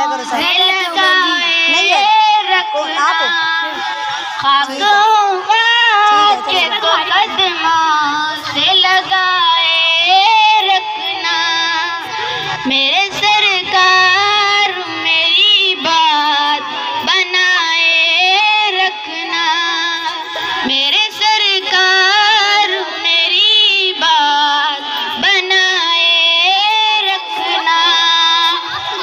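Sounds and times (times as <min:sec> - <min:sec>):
boy singing unaccompanied: 0:00.0 - 0:29.0.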